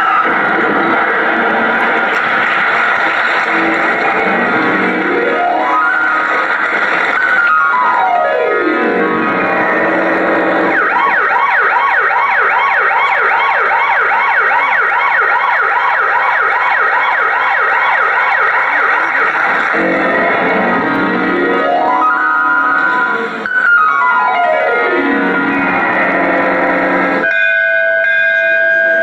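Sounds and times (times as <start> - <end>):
electronic siren sound effect: 0.0 - 29.0.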